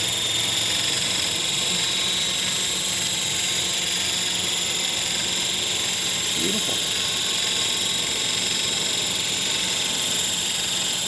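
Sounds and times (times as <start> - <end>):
remote control helicopter whine: 0.0 - 11.0.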